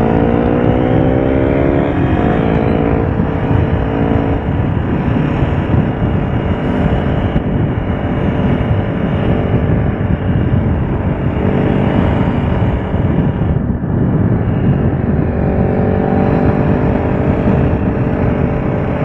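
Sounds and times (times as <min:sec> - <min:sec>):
motorcycle engine revving: 0:00.0 - 0:19.0
wind rushing on microphone: 0:00.0 - 0:19.0.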